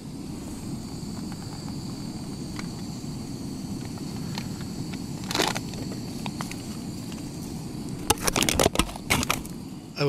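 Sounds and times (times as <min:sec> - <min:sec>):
faint high whine: 0:00.0 - 0:10.0
gas stove burner roaring: 0:00.0 - 0:10.0.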